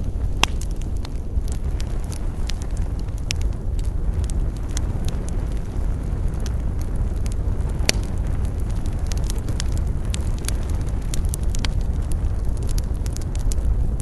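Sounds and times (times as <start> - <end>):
campfire crackling and popping: 0.0 - 14.0
low rumble: 0.0 - 14.0.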